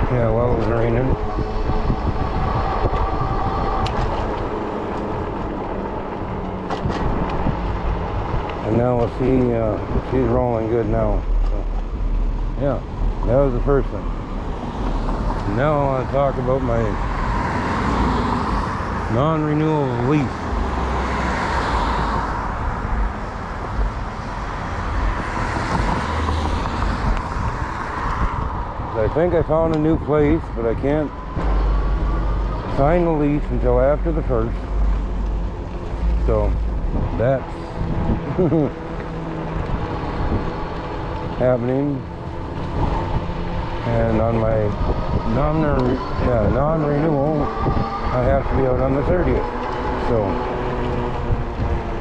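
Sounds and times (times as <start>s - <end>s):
bike tires rolling: 0.0s - 45.3s
wind noise: 0.0s - 52.0s.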